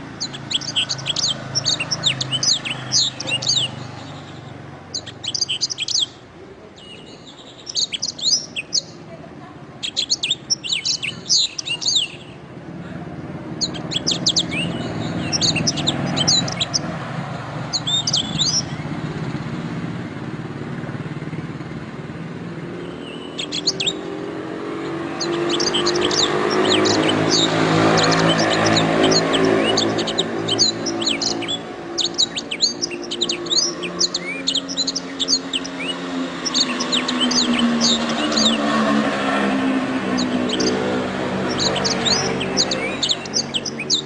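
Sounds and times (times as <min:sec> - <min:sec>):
canary singing trills: 0:00.0 - 0:12.5, 0:13.3 - 0:19.6, 0:22.6 - 0:44.0.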